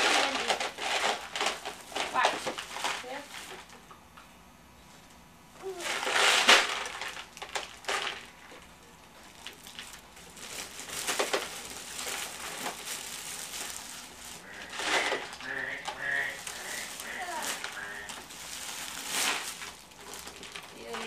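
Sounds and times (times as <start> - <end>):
cellophane crinkling: 0.0 - 3.8, 5.6 - 21.0.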